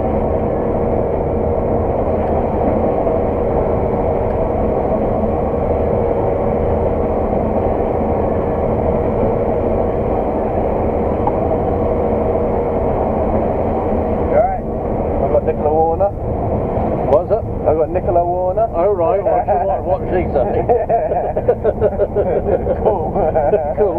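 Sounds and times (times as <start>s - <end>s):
combine harvester droning: 0.0s - 23.9s.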